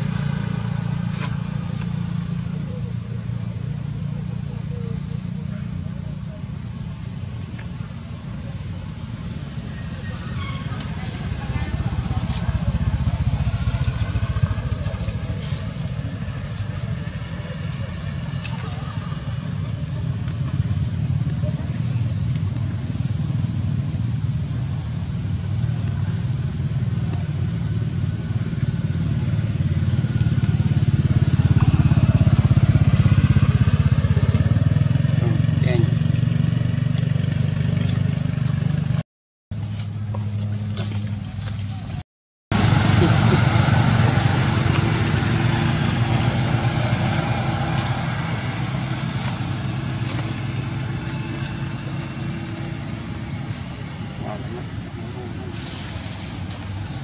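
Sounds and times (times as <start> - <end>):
motor engine running: 0.0 - 39.0, 39.6 - 57.0.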